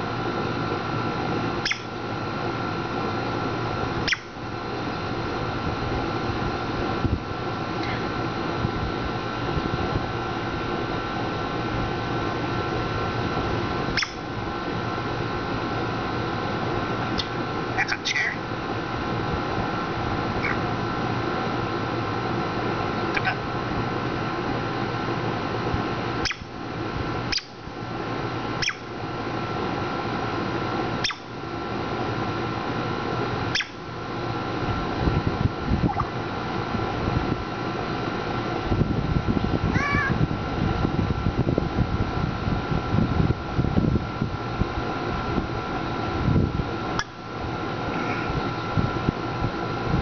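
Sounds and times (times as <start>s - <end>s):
fan whirring: 0.0s - 50.0s
steady hum and hiss: 0.0s - 50.0s.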